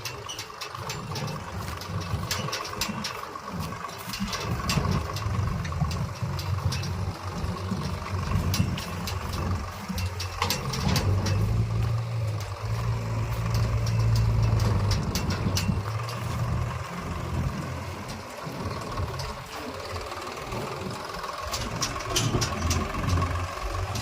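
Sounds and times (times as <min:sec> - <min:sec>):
clanks and knocks: 0:00.0 - 0:24.0
diesel engine droning: 0:00.0 - 0:24.0.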